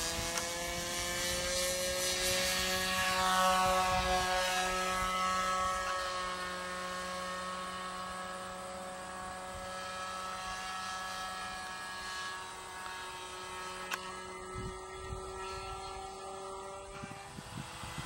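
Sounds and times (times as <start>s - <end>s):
model plane motor droning: 0.0s - 18.0s.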